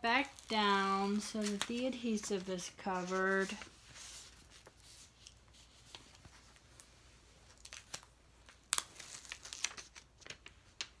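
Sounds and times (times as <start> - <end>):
paper sheet peeling and crinkling: 0.0 - 11.0.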